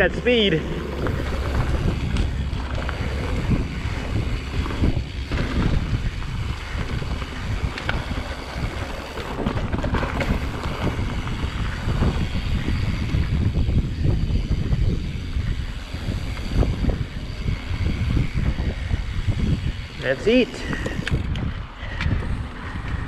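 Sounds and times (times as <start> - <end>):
bike knocks and rattles: 0.0 - 23.0
bike rolling over gravel: 0.0 - 23.0
wind buffeting microphone: 0.0 - 23.0.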